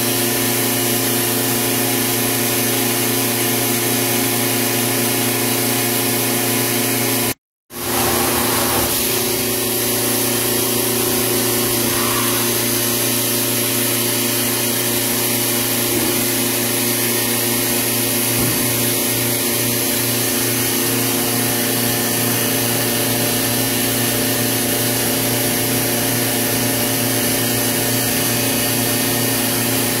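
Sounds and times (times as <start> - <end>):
machine hum and whir: 0.0 - 30.0.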